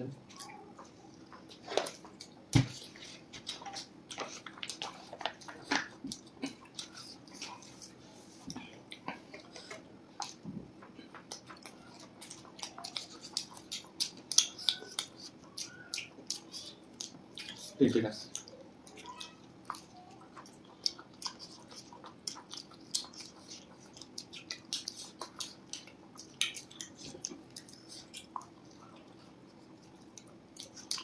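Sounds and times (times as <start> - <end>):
people chewing pizza: 0.0 - 31.0.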